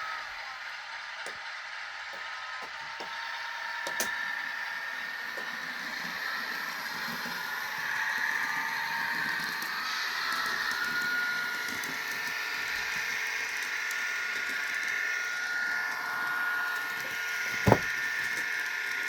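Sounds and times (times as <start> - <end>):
model train diesel engine sound: 0.0 - 19.0.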